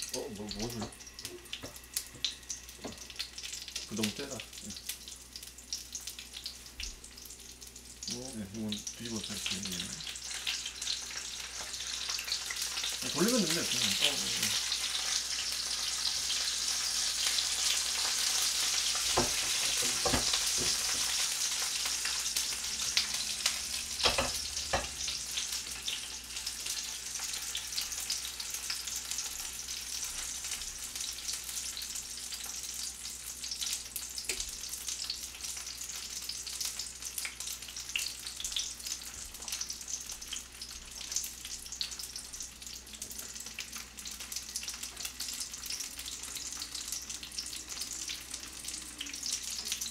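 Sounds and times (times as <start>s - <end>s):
dumplings sizzling in oil: 0.0s - 49.9s.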